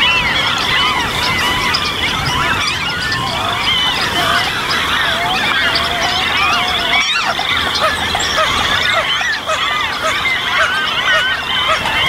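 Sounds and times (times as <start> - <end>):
chorus of birds calling: 0.0 - 12.0.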